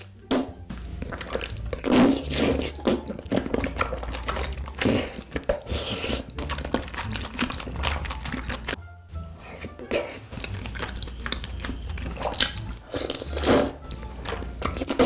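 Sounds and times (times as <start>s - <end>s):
wet sticky chewing: 0.0s - 15.0s.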